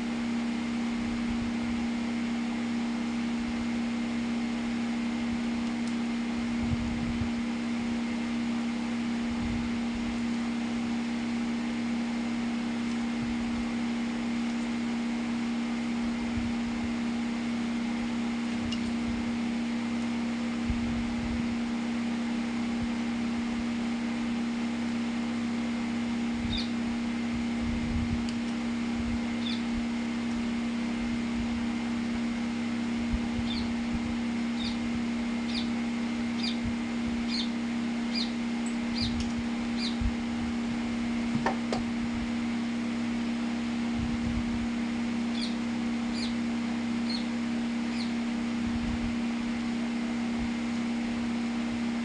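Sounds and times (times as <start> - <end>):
small motor humming: 0.0 - 52.0.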